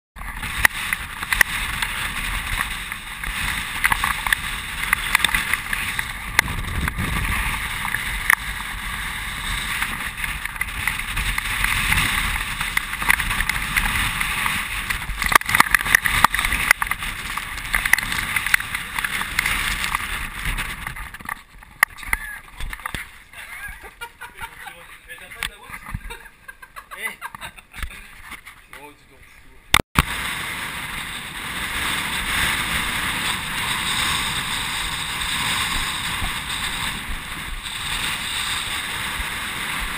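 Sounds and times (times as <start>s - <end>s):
wind gusting on microphone: 0.2s - 26.4s, 30.0s - 39.9s.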